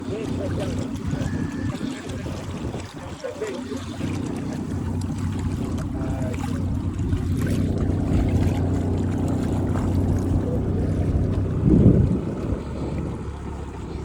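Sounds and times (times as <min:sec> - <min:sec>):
boat engine humming: 0:00.0 - 0:14.0
water noise: 0:00.0 - 0:14.0
wind noise: 0:00.4 - 0:14.0.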